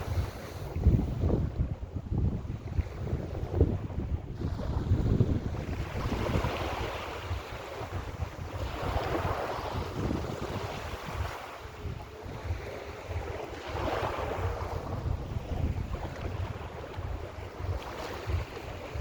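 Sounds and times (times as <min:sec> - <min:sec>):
sea waves breaking on shore: 0:00.0 - 0:19.0
wind buffeting microphone: 0:00.0 - 0:19.0.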